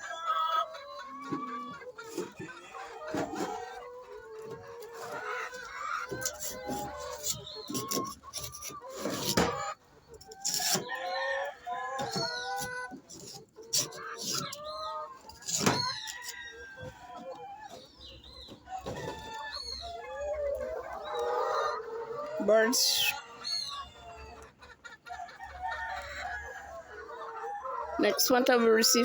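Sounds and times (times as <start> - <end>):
hens clucking and squawking: 0.0 - 29.0.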